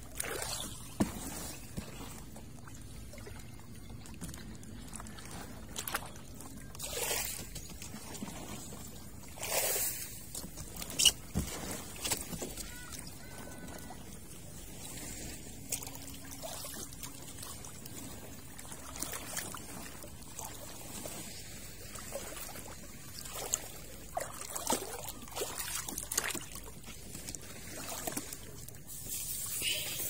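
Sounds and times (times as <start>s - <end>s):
small water splashes: 0.0s - 30.0s.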